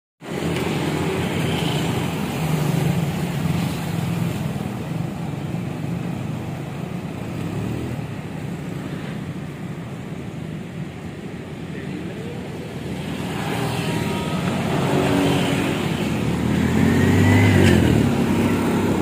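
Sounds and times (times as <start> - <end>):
road traffic: 0.2 - 19.0
vehicle engine humming: 0.2 - 19.0.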